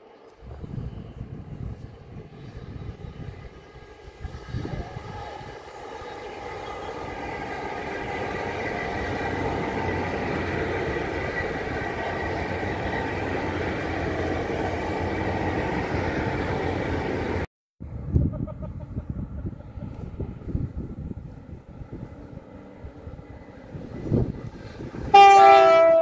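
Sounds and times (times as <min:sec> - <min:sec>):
train engine whine: 0:00.0 - 0:26.0
train wheels rumbling on rails: 0:00.3 - 0:26.0.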